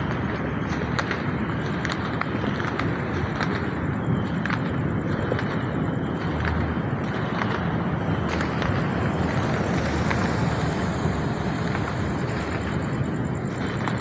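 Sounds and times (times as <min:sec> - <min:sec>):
low rumble of distant fireworks: 0:00.0 - 0:14.0
sharp pops of nearby fireworks: 0:00.0 - 0:14.0.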